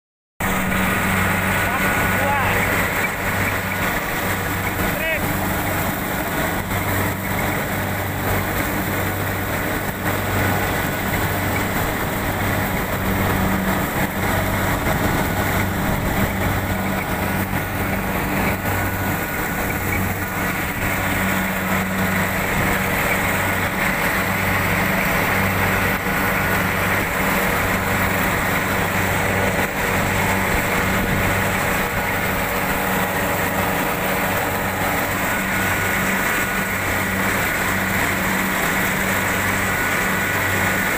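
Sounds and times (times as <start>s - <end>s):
combine harvester running: 0.4s - 40.9s.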